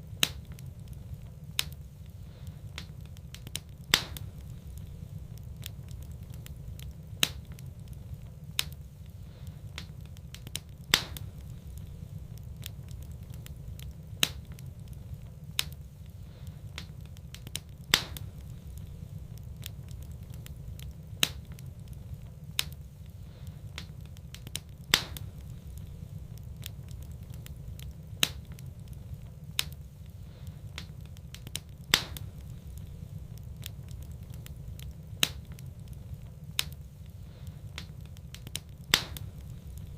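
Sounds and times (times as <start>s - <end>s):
low rumble: 0.0s - 37.8s
wood fire crackling and popping: 0.0s - 39.9s.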